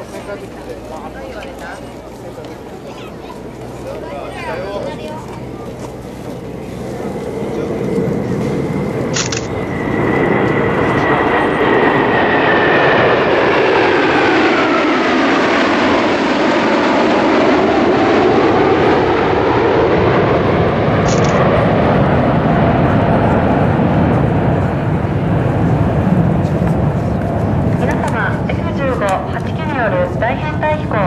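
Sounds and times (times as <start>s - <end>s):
fighter jets roaring past: 0.0s - 31.0s.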